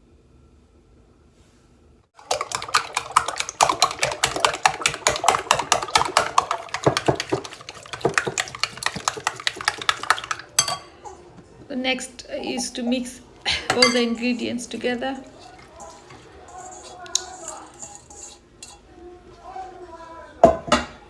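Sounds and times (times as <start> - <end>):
fork beating eggs in a bowl: 2.2 - 11.4, 12.0 - 20.3.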